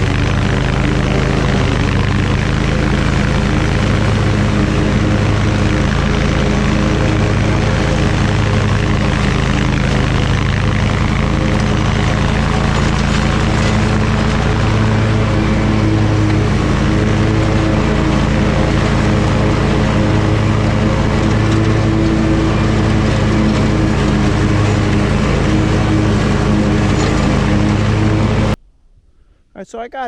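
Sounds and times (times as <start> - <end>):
mower engine droning: 0.0 - 28.6.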